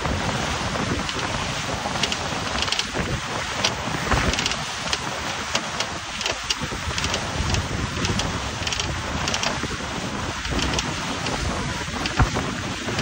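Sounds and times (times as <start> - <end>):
water rushing along hulls: 0.0 - 13.0
wind buffeting microphone: 0.0 - 13.0.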